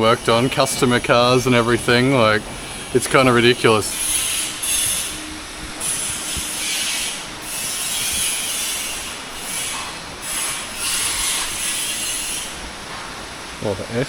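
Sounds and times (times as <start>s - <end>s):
bodywork tool rasping hiss: 0.0s - 13.3s.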